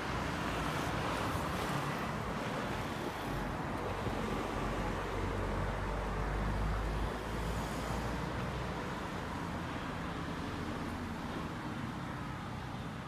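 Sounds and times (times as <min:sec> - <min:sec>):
cars and scooters passing: 0:00.0 - 0:13.0.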